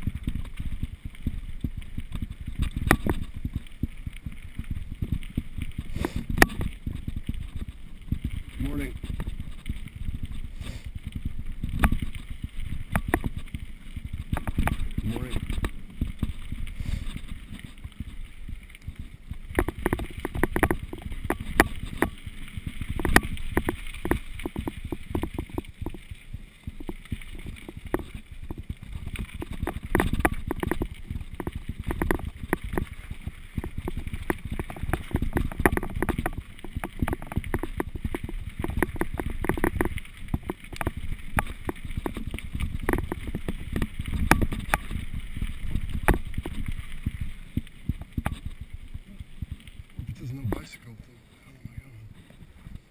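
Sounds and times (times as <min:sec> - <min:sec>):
bike knocks and rattles: 0:00.0 - 0:50.7
mountain bike rumbling over ground: 0:00.0 - 0:52.9.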